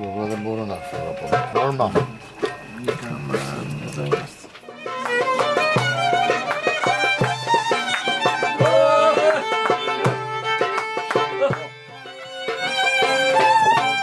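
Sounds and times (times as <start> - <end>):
violin melody: 0.0 - 14.0
drum strokes: 0.1 - 14.0.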